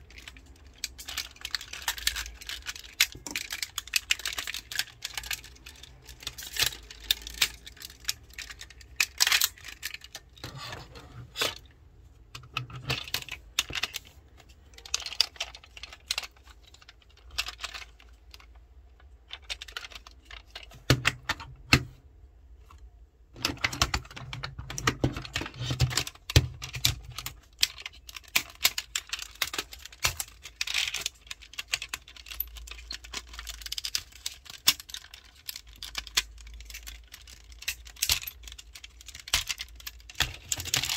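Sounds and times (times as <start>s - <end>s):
plastic toy parts clicking: 0.0s - 10.5s, 12.3s - 22.0s, 22.6s - 40.9s.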